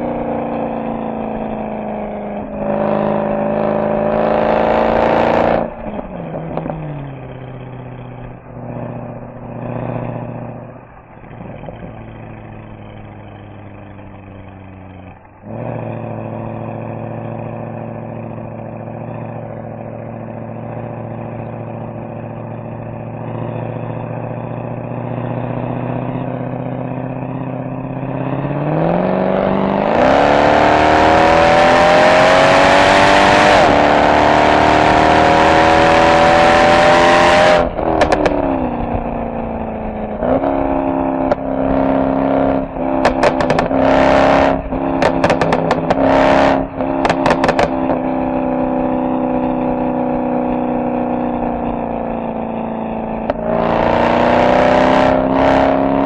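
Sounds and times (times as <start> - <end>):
car engine revving and accelerating: 0.0 - 56.0.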